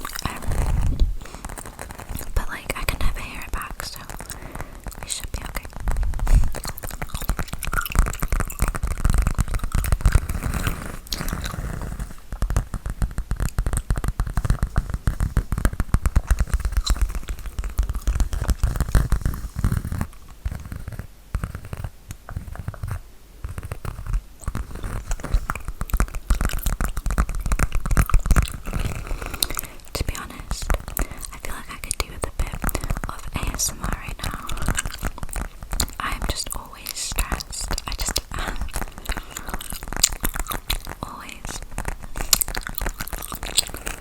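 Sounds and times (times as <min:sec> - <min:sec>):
fingernails tapping and scratching bag: 0:03.7 - 0:31.4, 0:32.0 - 0:44.0.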